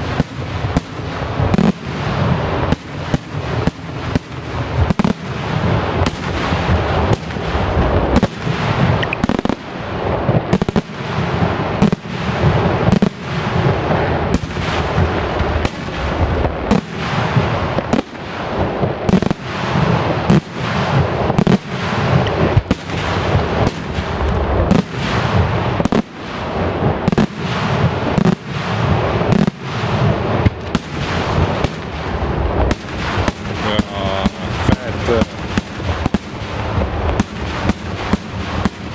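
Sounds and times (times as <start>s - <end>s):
fireworks bangs with rumble: 0.0s - 38.9s.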